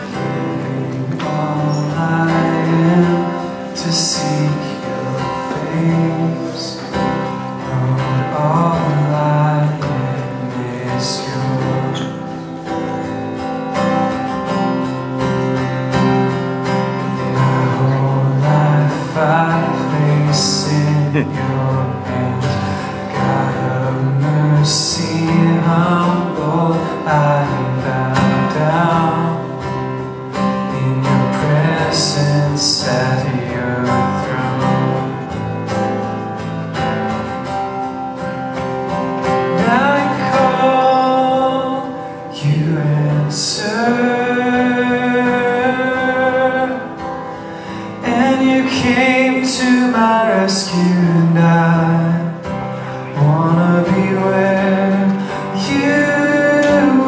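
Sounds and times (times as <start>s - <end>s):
man singing: 0.0s - 12.6s, 17.0s - 35.5s, 39.2s - 57.0s
strummed acoustic guitar: 0.0s - 57.0s.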